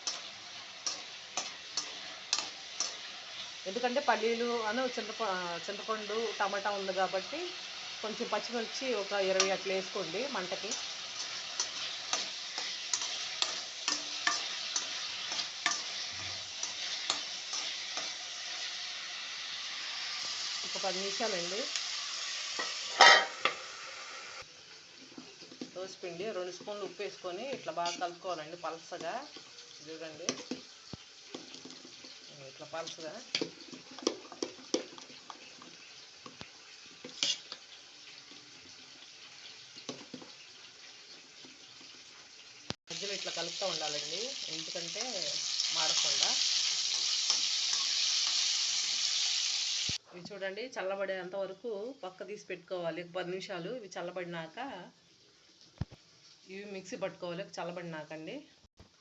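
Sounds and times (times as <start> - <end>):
oil crackling and popping: 0.0 - 4.3, 5.9 - 23.6, 24.4 - 50.0, 55.2 - 56.5
vegetables sizzling in hot oil: 0.0 - 59.0.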